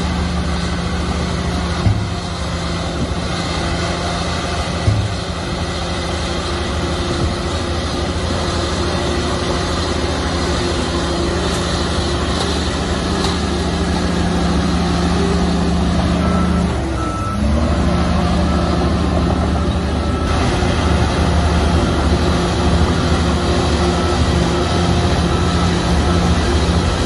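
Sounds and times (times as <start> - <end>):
heavy diesel machinery running: 0.0 - 27.0
reversing alarm beeping: 0.2 - 27.0.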